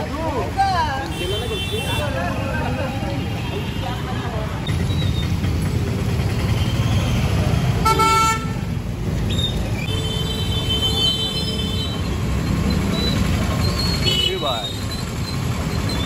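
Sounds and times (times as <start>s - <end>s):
low rumble of passing traffic: 0.0s - 16.0s.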